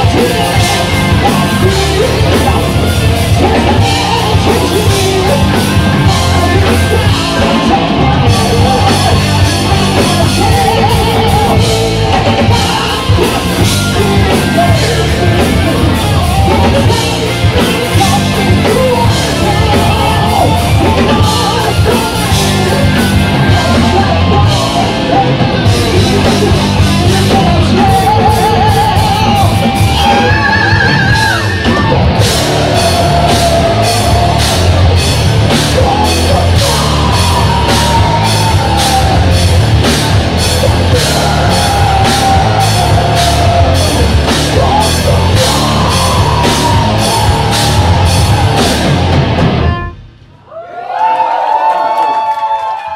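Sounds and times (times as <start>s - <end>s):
man singing: 0.0s - 49.0s
drum kit beat: 0.0s - 50.1s
electric guitars: 0.0s - 50.2s.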